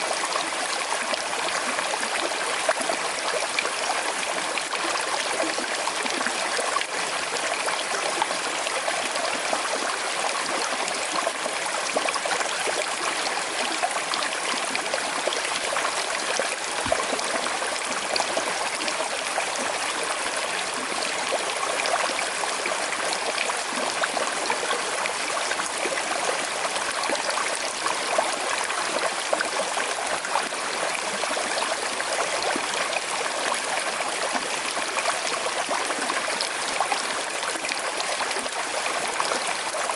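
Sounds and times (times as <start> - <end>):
river babbling over stones: 0.0 - 39.9.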